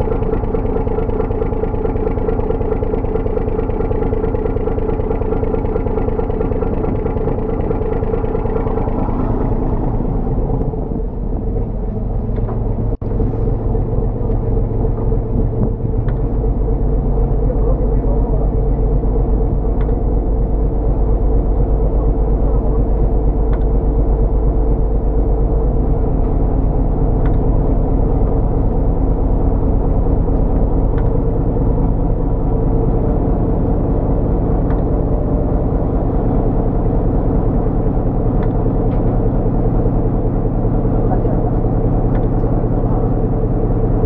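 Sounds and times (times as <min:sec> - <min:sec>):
boat engine running: 0:00.0 - 0:44.0.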